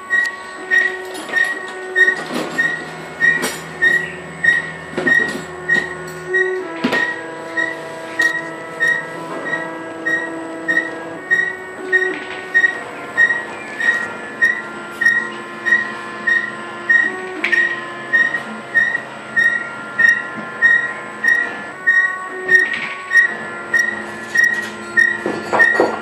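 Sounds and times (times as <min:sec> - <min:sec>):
printer motors whining: 0:00.0 - 0:26.0.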